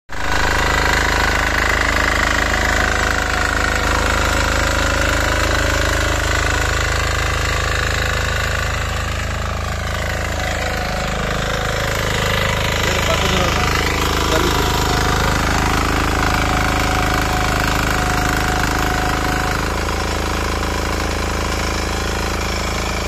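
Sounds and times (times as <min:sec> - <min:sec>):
diesel engine running under load: 0:00.1 - 0:23.0.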